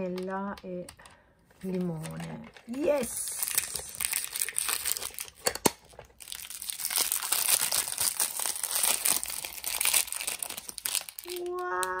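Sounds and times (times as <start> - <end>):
plastic wrapper crinkling and tearing: 1.6 - 12.0.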